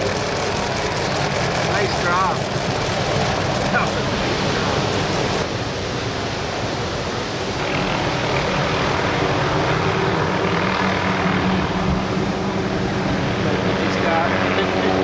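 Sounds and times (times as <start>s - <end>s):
engine droning: 0.0s - 5.5s, 7.6s - 15.0s.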